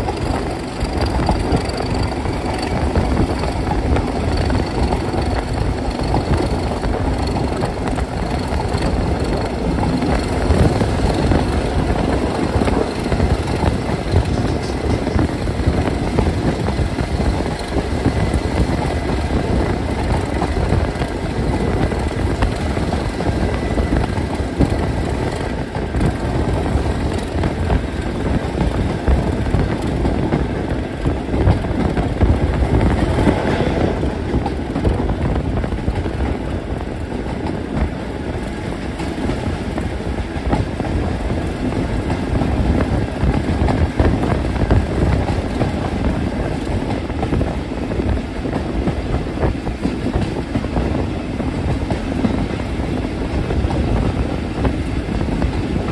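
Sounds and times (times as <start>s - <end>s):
diesel locomotive engine running: 0.0s - 55.9s
wind rushing past window: 0.0s - 55.9s.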